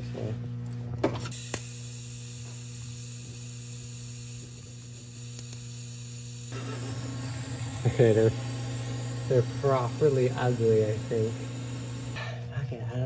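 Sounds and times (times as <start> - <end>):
low electrical hum: 0.0 - 13.0
welding arc hissing: 1.3 - 12.2.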